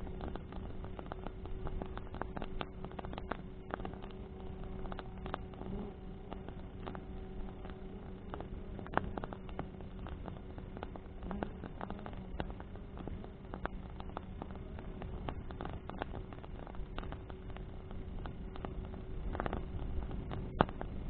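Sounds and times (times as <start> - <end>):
bonfire crackling: 0.0 - 21.0
faint steady hum: 0.0 - 21.0
low rumble of flame: 0.0 - 21.0
sharp pops from fire: 0.0 - 21.0
wind: 0.0 - 21.0.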